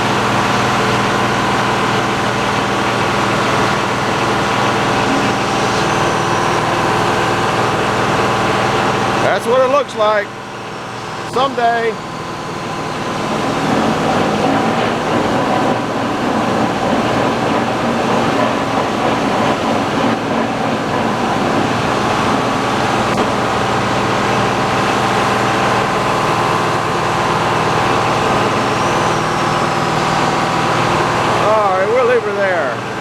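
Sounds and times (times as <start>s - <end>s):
sawmill mechanical drone: 0.0s - 33.0s.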